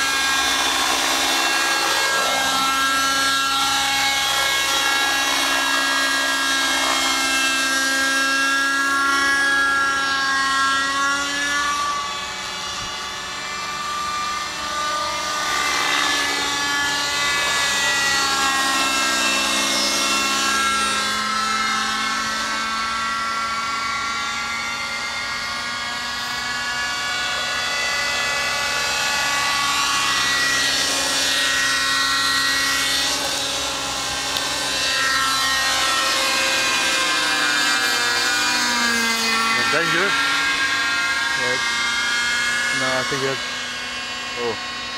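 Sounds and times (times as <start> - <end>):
rc helicopter engine and rotor: 0.0 - 44.9.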